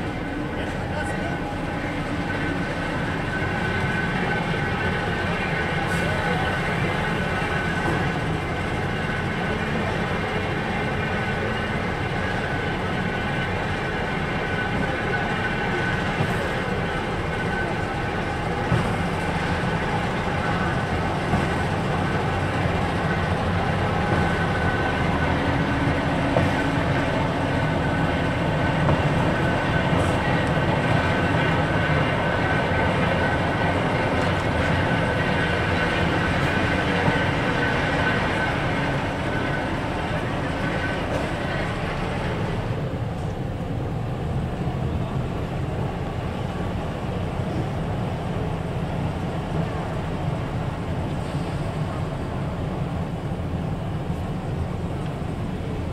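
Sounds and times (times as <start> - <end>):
diesel locomotive running: 0.0 - 55.9.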